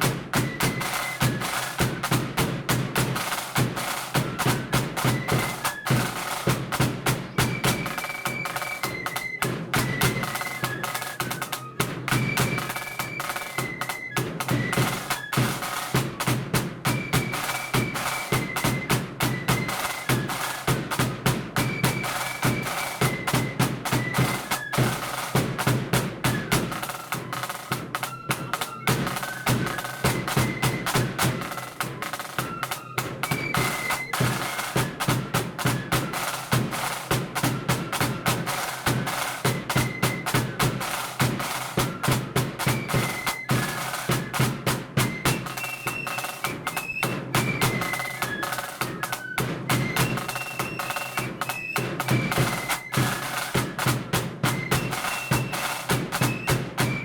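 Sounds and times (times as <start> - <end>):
flutes playing melody: 0.0 - 57.0
snare drumming: 0.0 - 57.0.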